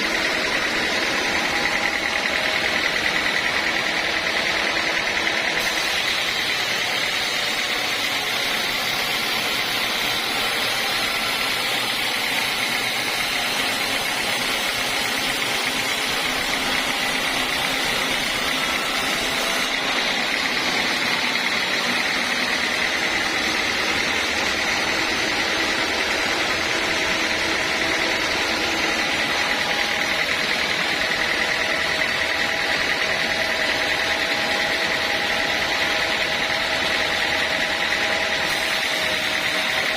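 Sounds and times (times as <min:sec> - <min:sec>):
band saw running with whine: 0:00.0 - 0:39.9.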